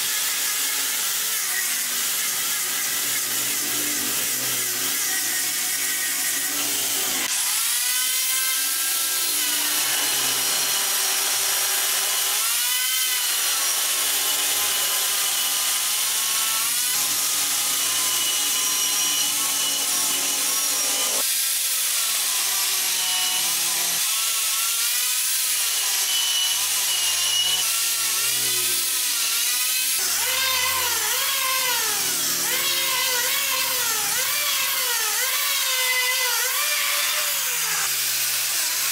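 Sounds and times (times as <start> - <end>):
angle grinder sanding wood: 0.0 - 38.9
electric hand planer on wood: 0.0 - 38.9.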